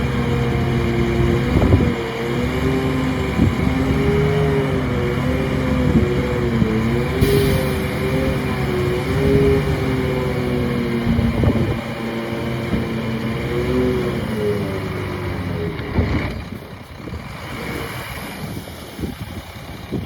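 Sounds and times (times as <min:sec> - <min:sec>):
heavy diesel engine under load: 0:00.0 - 0:20.0.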